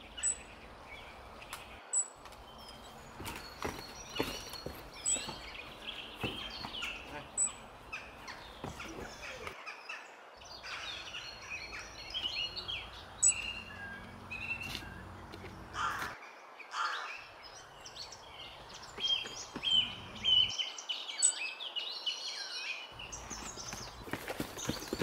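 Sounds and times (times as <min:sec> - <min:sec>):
low bird calls: 0:00.0 - 0:21.4, 0:22.9 - 0:25.0
birds chirping: 0:00.0 - 0:25.0.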